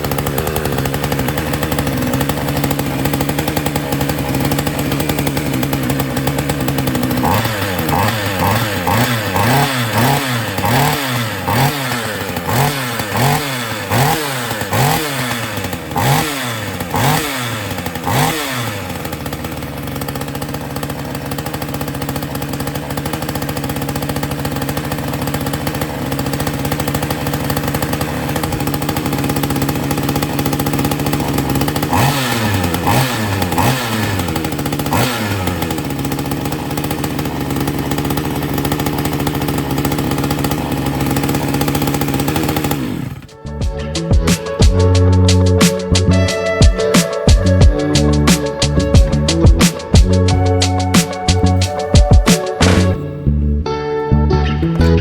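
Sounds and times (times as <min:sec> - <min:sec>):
chainsaw idling and revving: 0:00.0 - 0:53.2.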